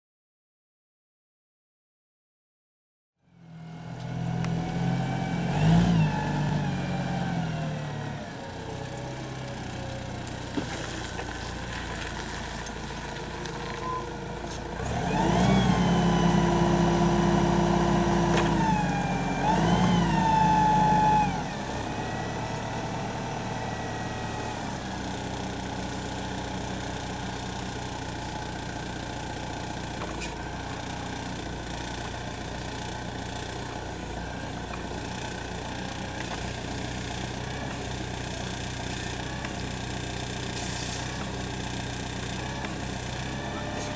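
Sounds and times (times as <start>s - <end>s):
diesel forklift engine revving: 3.4s - 43.9s.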